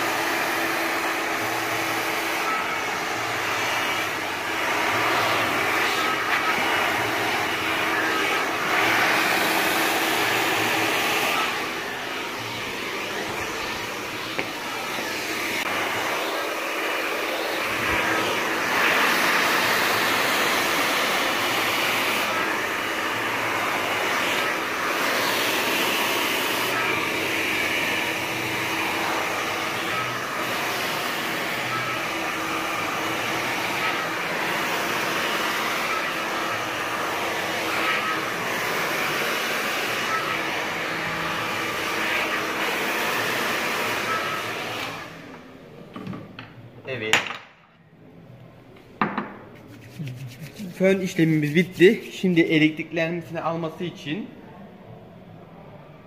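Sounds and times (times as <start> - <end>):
hair dryer blowing: 0.0 - 45.8, 49.6 - 54.0.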